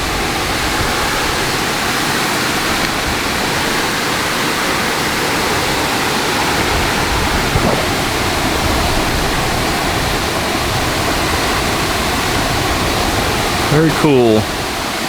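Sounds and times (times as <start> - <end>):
small waterfall splashing: 0.0 - 15.0.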